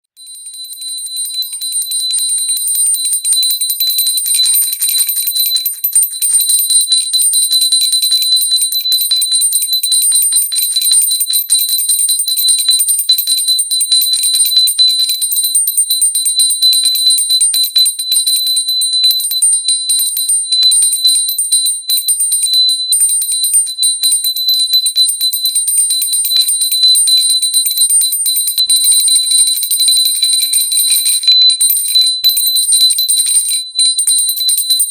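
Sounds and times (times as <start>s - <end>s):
hand bell rung rapidly: 0.1s - 34.9s.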